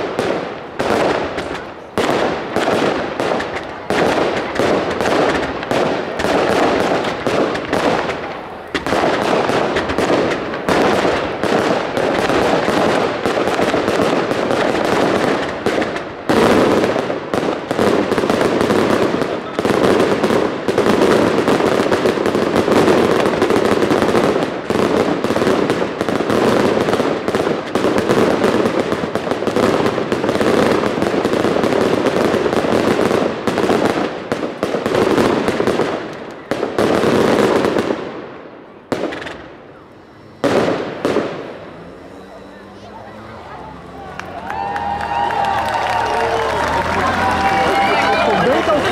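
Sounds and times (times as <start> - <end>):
fireworks crackling: 0.0 - 48.9
fireworks launching and banging: 0.0 - 48.9.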